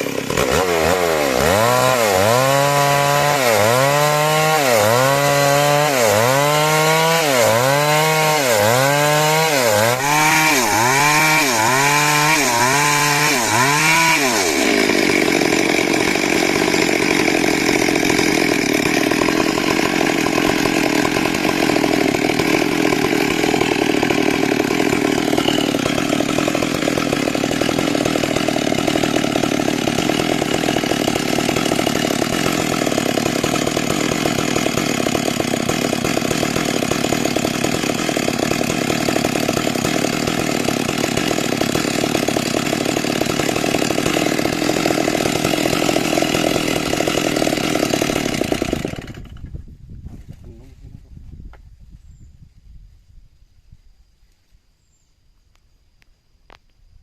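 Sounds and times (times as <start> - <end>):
chainsaw sawing timber: 0.0 - 49.6.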